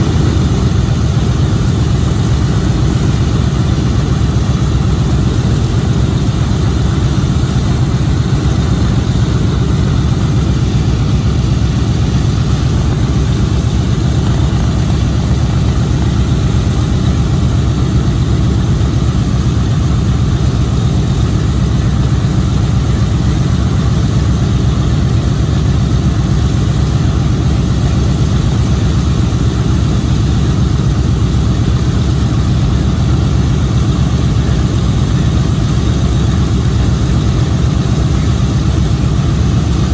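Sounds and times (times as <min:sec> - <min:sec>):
radial aircraft engines idling: 0:00.0 - 0:39.9.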